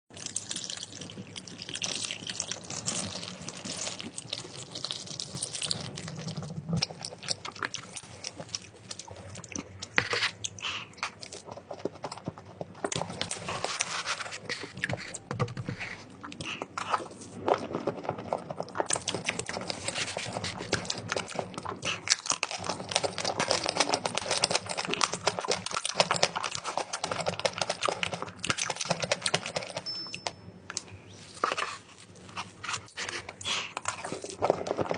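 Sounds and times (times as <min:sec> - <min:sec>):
food crunching while chewed: 0:00.1 - 0:29.9, 0:30.7 - 0:34.9.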